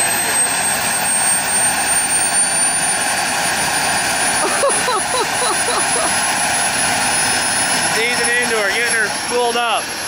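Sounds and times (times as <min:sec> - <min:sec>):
jet turbine engine roaring: 0:00.0 - 0:10.0.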